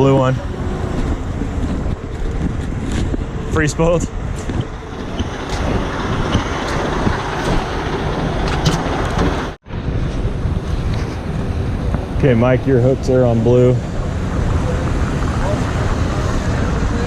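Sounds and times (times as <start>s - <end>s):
diesel truck engine running: 0.0s - 17.0s
wind buffeting microphone: 0.0s - 17.0s.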